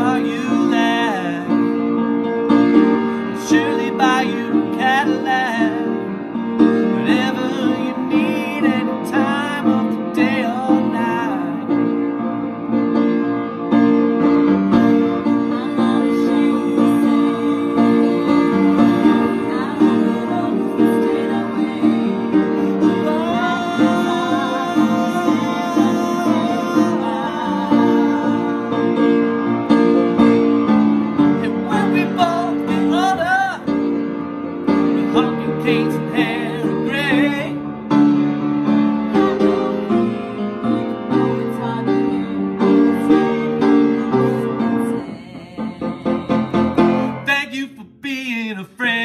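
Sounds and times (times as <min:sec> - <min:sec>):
person singing: 0:00.0 - 0:01.9, 0:02.6 - 0:12.0, 0:14.7 - 0:30.3, 0:31.1 - 0:33.8, 0:34.7 - 0:37.7, 0:39.1 - 0:49.0
keyboard and guitar song: 0:00.0 - 0:49.0.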